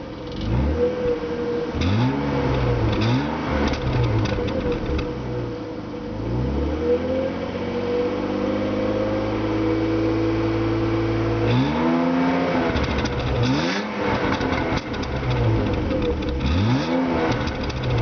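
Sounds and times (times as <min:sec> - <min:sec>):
car engine revving: 0:00.0 - 0:05.5, 0:06.2 - 0:18.0.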